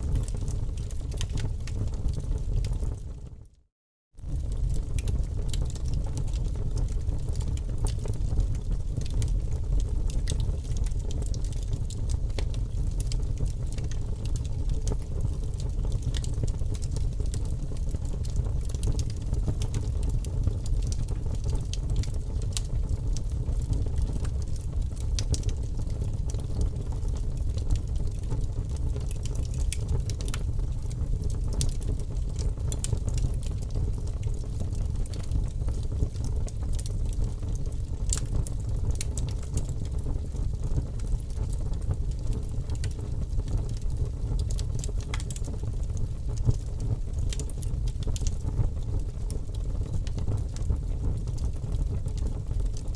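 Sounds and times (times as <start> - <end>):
crackles and pops: 0.0 - 3.6, 4.2 - 52.9.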